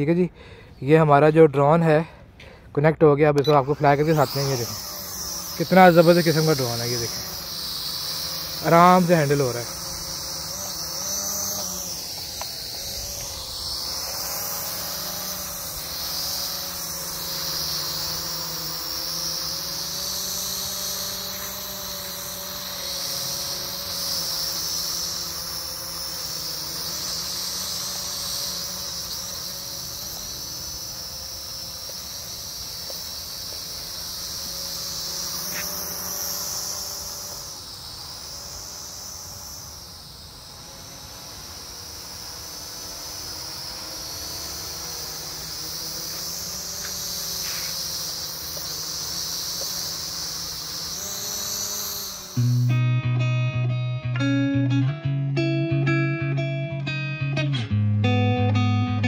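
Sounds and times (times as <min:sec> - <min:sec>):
toy drone buzzing whine: 0:03.4 - 0:52.8.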